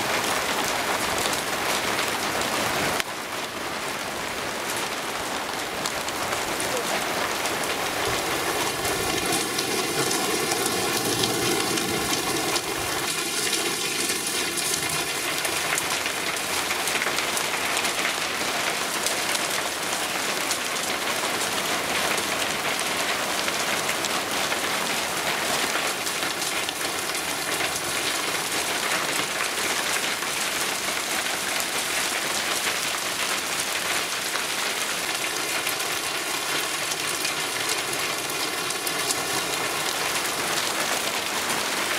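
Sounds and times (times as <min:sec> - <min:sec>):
heavy rain and hail: 0:00.0 - 0:41.9.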